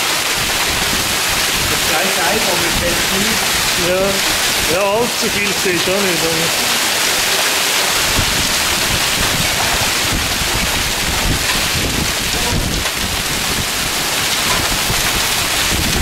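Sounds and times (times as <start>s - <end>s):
heavy rain pouring: 0.0s - 16.0s
wind buffeting microphone: 0.4s - 16.0s.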